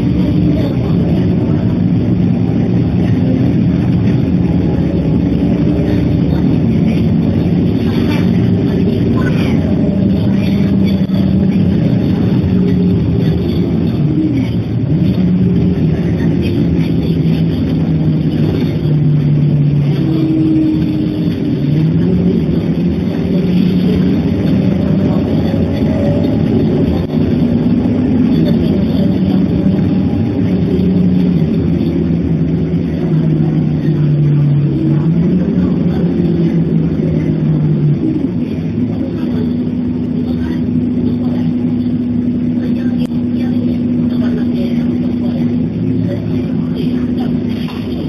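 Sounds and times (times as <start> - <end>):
bus diesel engine drone: 0.0 - 48.0.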